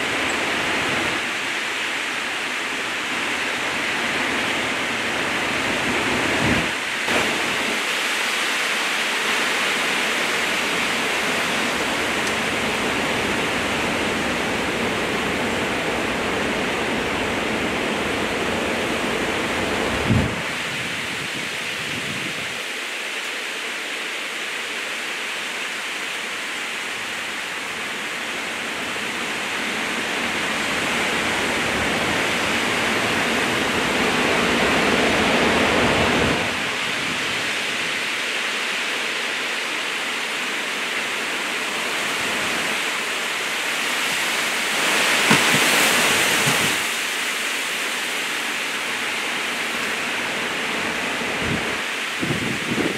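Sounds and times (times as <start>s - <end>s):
wind and rain rushing through trees: 0.0s - 52.9s.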